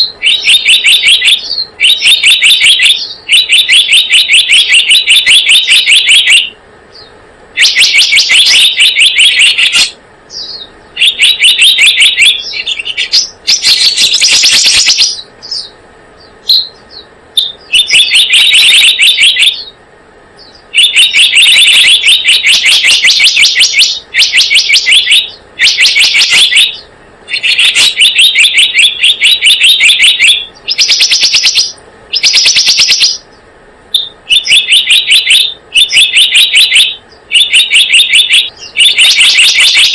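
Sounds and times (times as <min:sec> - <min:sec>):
bird rapid high chirping: 0:00.0 - 0:39.9.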